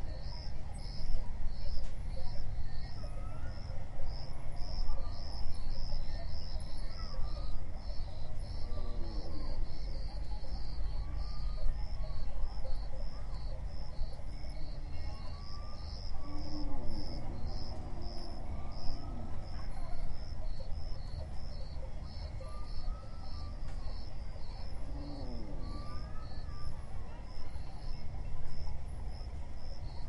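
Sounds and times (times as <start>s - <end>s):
cricket chirping: 0.1s - 30.0s.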